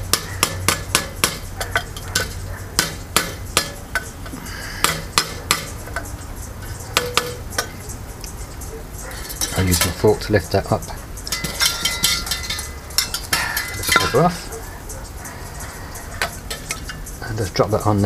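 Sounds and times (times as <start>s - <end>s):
metallic clicks and ticks: 0.0s - 18.0s.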